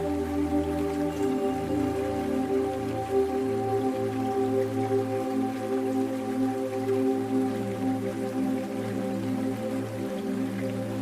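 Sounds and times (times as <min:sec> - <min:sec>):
calm new-age music: 0:00.0 - 0:11.0
faint dripping patter: 0:00.0 - 0:11.0.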